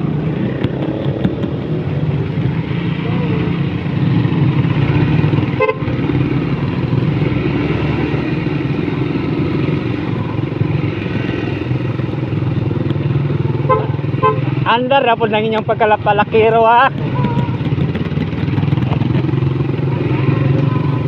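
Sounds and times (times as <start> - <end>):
motorcycle engine running: 0.0 - 21.0
other motorcycles riding: 0.0 - 21.0.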